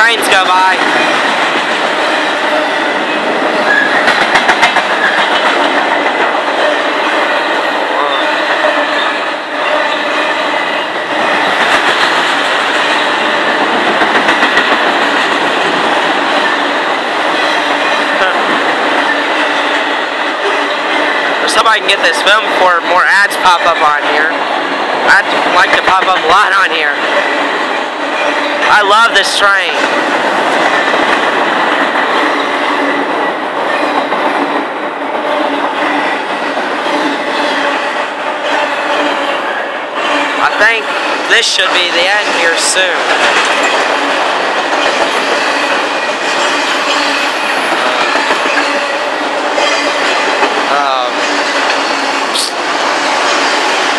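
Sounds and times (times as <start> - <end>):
wheels clicking over rail joints: 0.0 - 23.7, 24.3 - 53.9
train wheels on rails: 0.0 - 53.9.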